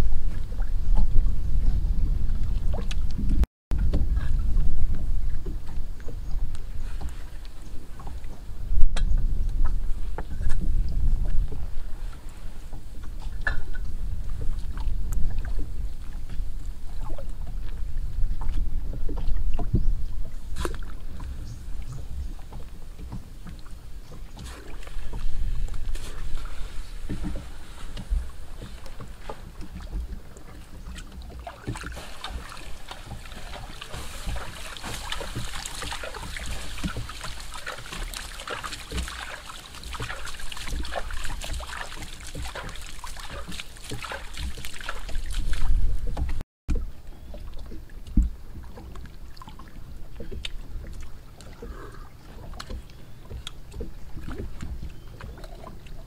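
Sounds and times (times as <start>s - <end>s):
water lapping against boat: 0.0s - 56.0s
wind rumble on microphone: 0.0s - 56.0s.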